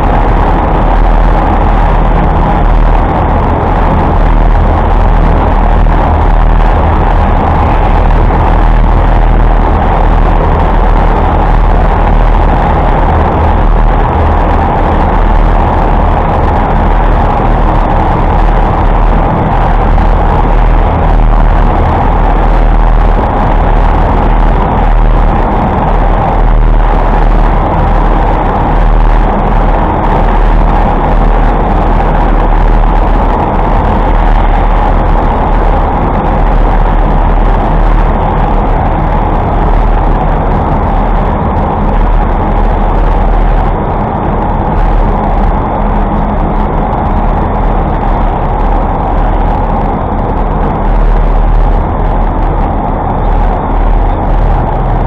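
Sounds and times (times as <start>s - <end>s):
city traffic rushing: 0.0s - 55.0s
low traffic rumble: 0.0s - 55.0s.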